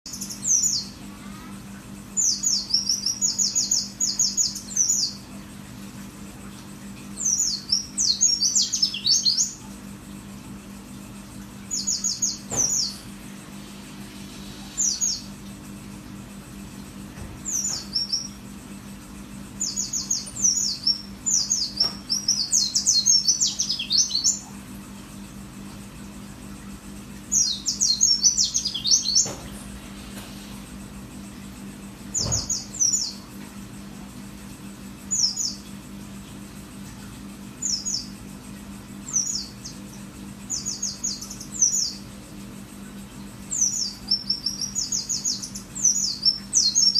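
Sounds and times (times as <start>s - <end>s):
steady low hum: 0.1s - 46.9s.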